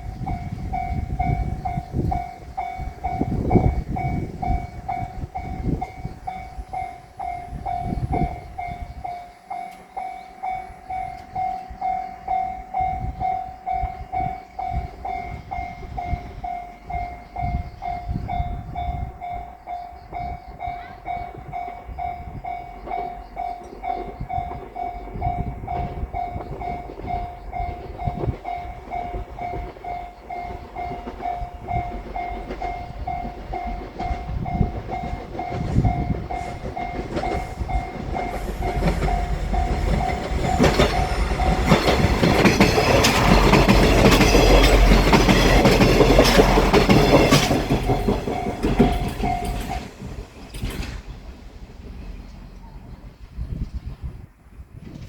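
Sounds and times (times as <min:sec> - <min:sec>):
crossing warning bell ringing: 0:00.0 - 0:51.4
train wheels clicking over rails: 0:00.0 - 0:52.6.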